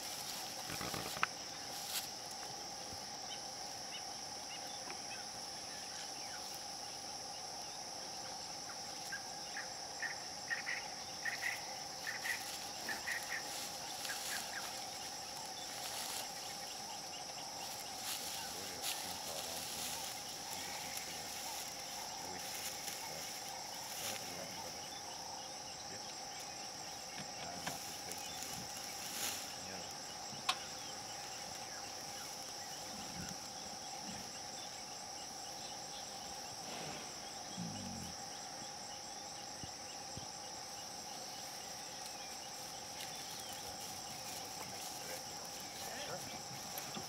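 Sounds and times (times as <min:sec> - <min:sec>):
insects trilling: 0:00.0 - 0:47.0
low insect drone: 0:00.0 - 0:47.0.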